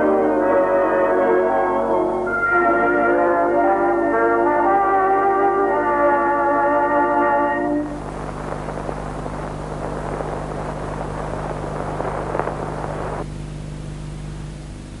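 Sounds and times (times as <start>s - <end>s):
film soundtrack crackle and hiss: 0.0s - 15.0s
steady low hum: 0.0s - 15.0s.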